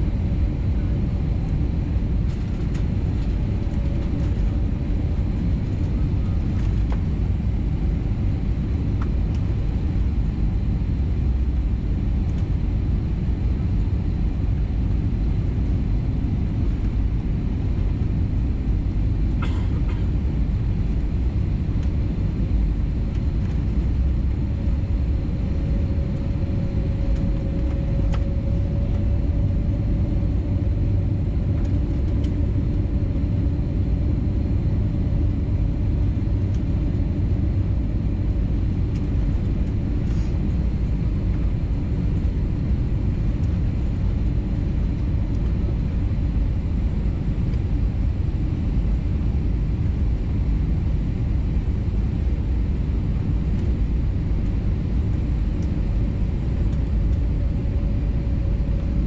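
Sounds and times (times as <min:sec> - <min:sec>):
aircraft cabin engine rumble: 0:00.0 - 0:59.0
faint hum: 0:00.0 - 0:59.0.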